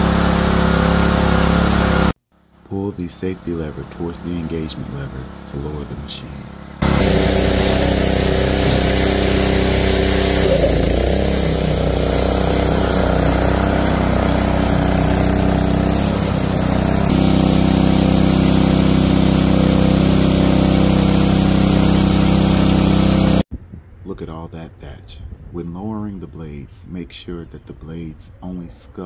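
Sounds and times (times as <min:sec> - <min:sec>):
power rake engine running: 0:00.0 - 0:23.4.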